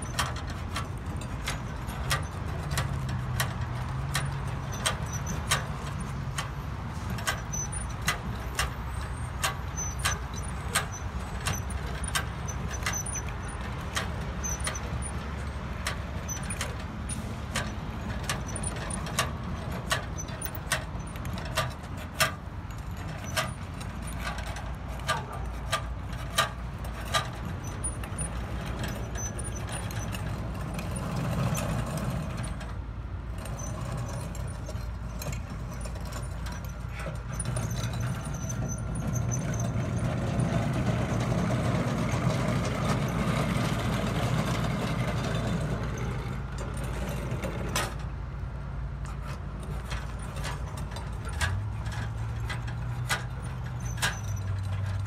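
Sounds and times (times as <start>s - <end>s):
sharp metallic clicks and rattles: 0.0s - 55.0s.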